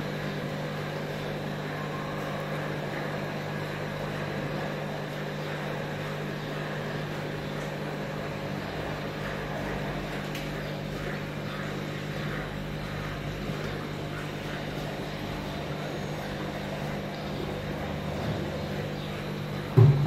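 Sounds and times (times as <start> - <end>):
aquarium pumps humming: 0.0 - 20.0.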